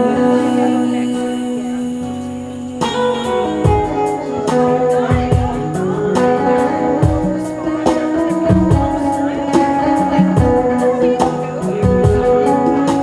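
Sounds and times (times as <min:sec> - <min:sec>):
guitar: 0:00.0 - 0:13.0
live reggae band: 0:00.0 - 0:13.0.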